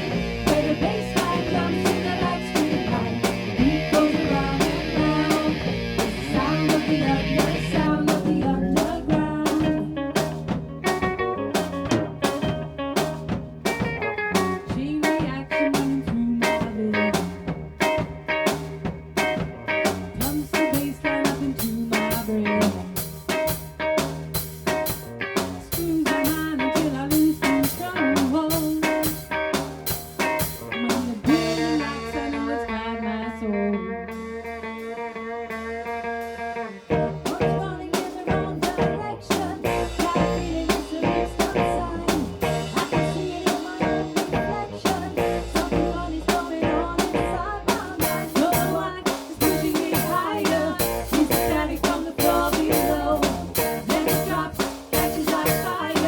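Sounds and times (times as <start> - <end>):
drum kit beat: 0.0 - 32.1, 36.0 - 56.0
bass: 0.0 - 56.0
guitar melody: 0.0 - 56.0.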